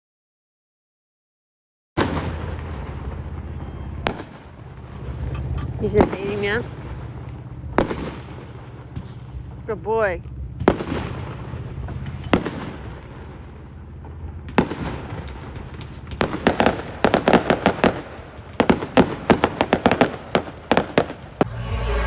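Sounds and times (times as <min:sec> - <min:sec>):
fireworks bang: 0:02.0 - 0:22.0
fireworks cracking and popping: 0:02.0 - 0:22.0.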